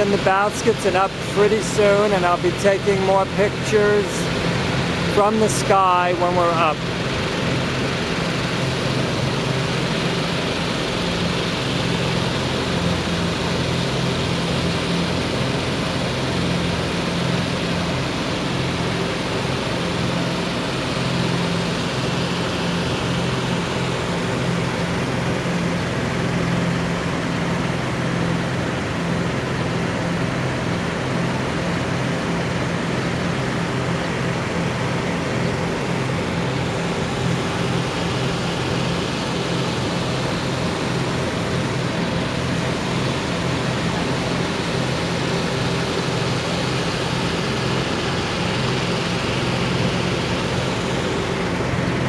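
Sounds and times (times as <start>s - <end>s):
engine drone: 0.0s - 52.0s.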